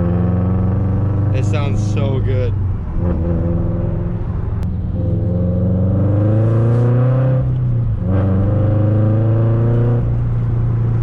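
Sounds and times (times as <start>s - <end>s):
car engine revving under throttle: 0.0s - 11.0s.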